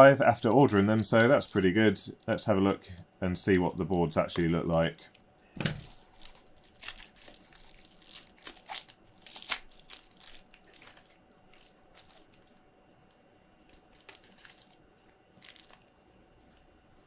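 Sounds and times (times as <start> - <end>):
bubble wrap crinkling: 0.0 - 2.6, 3.5 - 17.0.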